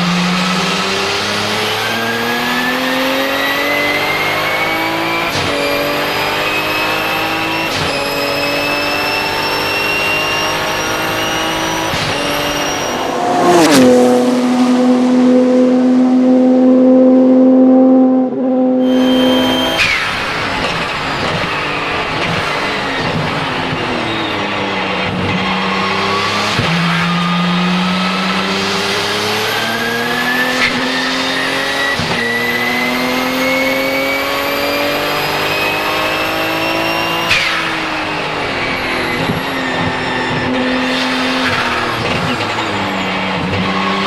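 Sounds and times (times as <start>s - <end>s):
race car engine accelerating: 0.0s - 44.0s.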